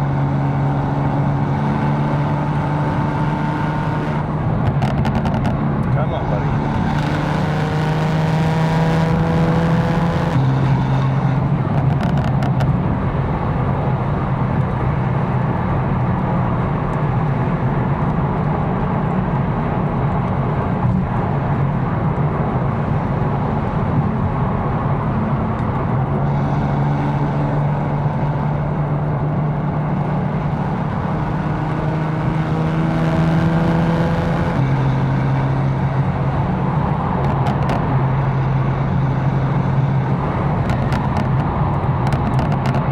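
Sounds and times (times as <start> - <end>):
car engine droning: 0.0 - 42.9
road noise: 0.0 - 42.9.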